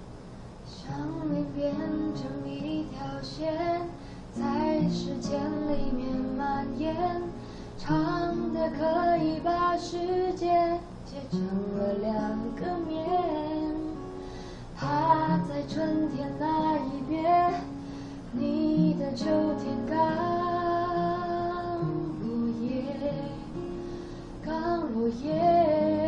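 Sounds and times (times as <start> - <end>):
acoustic guitar: 0.0 - 26.0
woman singing: 0.7 - 26.0.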